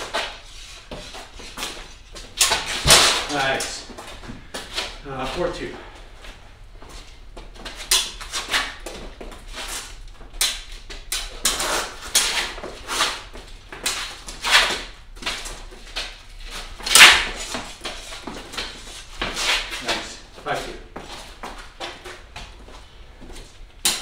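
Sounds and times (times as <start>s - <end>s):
shoes scuffing on concrete floor: 0.0s - 23.7s.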